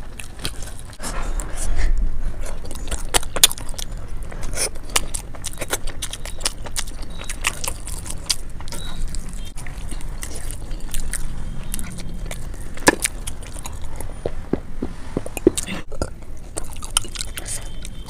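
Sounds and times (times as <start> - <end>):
biting and chewing: 0.0 - 18.0
wet mouth clicks: 2.6 - 18.0.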